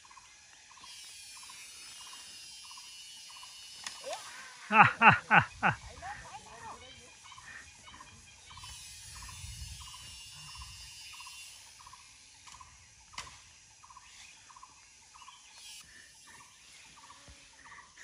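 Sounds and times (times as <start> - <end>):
animal calling with rattling notes: 0.7 - 17.2.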